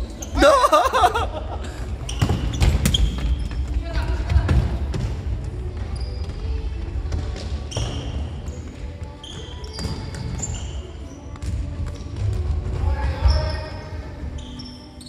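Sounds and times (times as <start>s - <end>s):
sports shoes squeaking: 0.0s - 0.4s, 2.0s - 5.0s, 5.7s - 6.8s, 7.4s - 15.0s.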